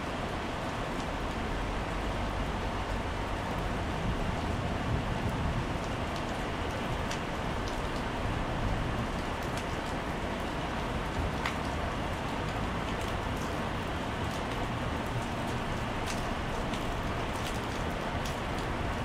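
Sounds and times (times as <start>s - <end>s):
rain on wet paving: 0.0s - 19.0s.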